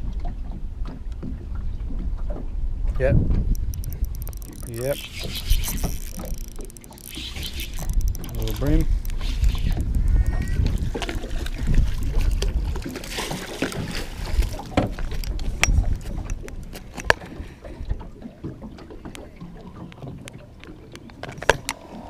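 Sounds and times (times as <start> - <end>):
fishing gear clicking and knocking: 3.5 - 21.9.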